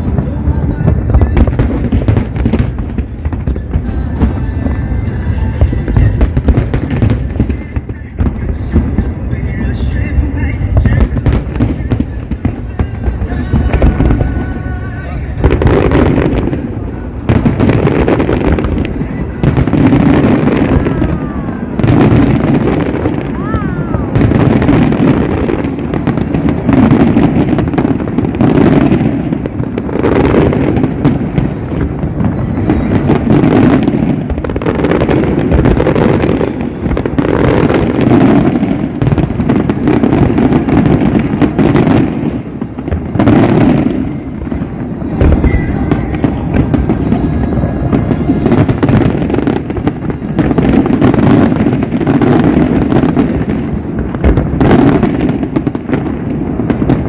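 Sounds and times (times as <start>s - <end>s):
fireworks booms and bangs: 0.0s - 57.0s.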